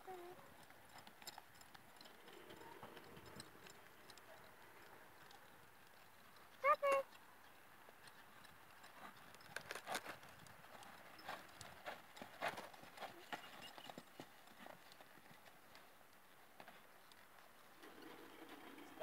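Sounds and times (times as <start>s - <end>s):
faint hoofbeats on sand: 0.0s - 19.0s.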